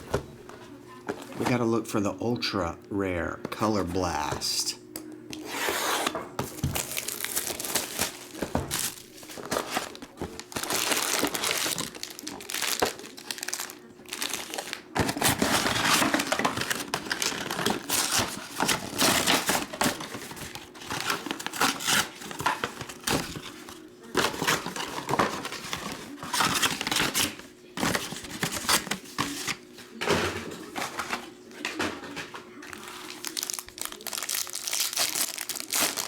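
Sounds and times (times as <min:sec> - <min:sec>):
foil wrappers crinkling and tearing: 0:06.4 - 0:30.0, 0:30.6 - 0:36.0.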